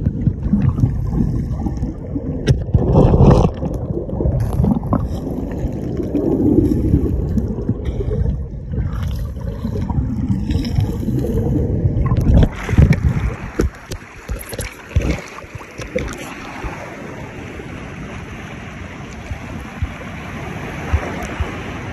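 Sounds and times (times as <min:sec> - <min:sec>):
seawater sloshing and splashing: 0:00.0 - 0:18.3
small waves washing: 0:00.0 - 0:21.9.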